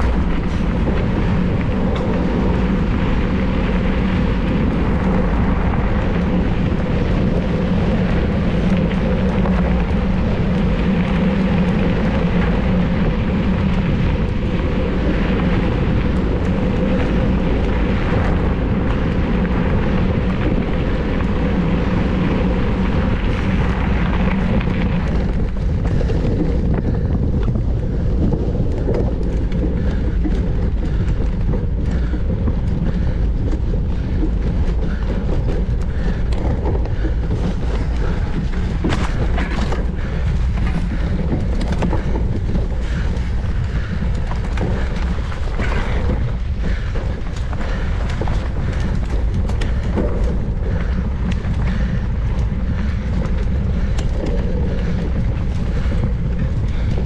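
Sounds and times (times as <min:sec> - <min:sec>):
tyres rumbling on trail: 0:00.0 - 0:57.0
wind rushing over microphone: 0:00.0 - 0:57.0.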